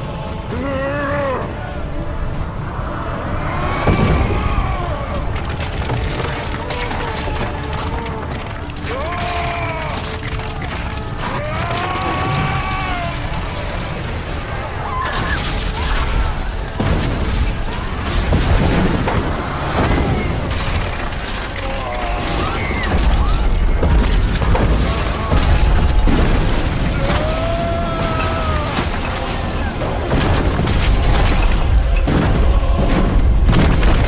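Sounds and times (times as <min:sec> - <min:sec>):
dramatic orchestral music: 0:00.0 - 0:34.0
heavy rumbling: 0:00.0 - 0:34.0
falling masonry crashing: 0:03.6 - 0:34.0.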